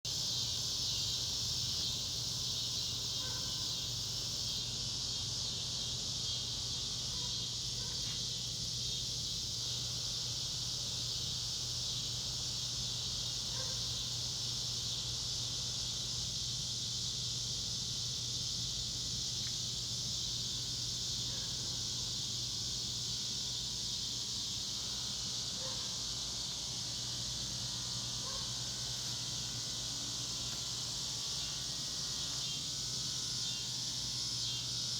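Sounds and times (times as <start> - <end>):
cicadas droning: 0.1 - 34.9.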